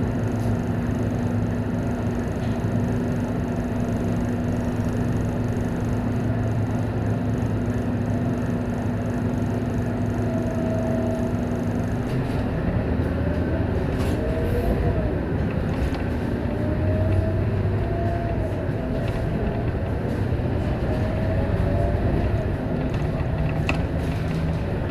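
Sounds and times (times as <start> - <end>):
bus diesel engine rumble: 0.0 - 24.9
drivetrain whine: 0.0 - 24.9.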